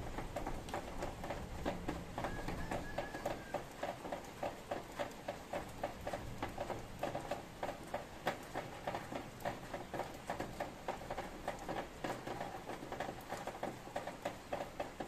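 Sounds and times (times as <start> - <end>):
rain dripping and pattering: 0.0 - 15.0.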